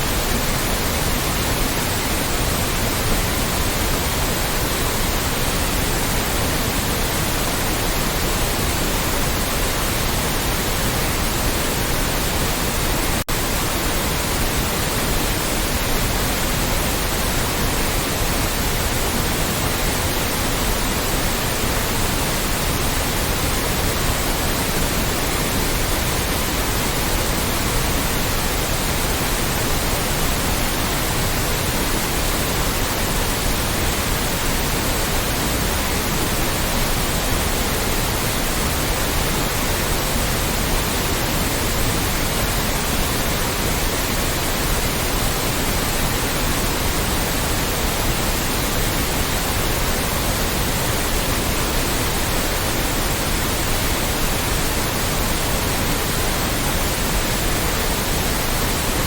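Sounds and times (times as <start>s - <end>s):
loud white noise hiss: 0.0s - 59.0s.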